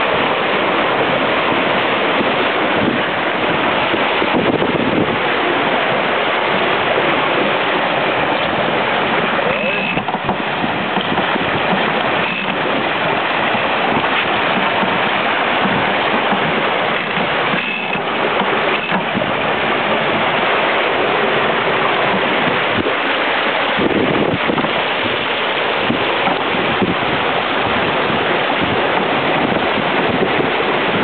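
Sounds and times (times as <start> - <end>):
water rushing along hull: 0.0 - 31.0.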